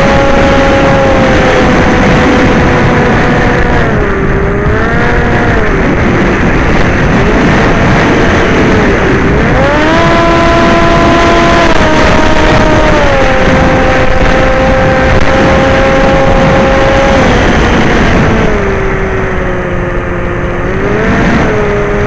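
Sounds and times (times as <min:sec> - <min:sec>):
aircraft motor and propeller: 0:00.0 - 0:22.0
wind rush: 0:00.0 - 0:22.0.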